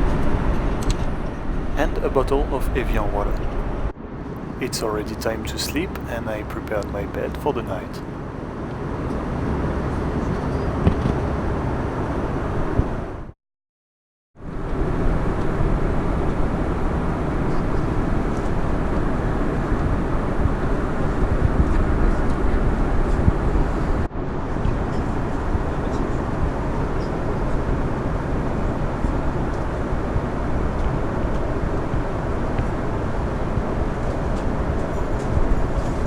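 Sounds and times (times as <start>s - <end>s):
airplane cabin engine and airflow noise: 0.0s - 13.2s, 14.4s - 36.0s.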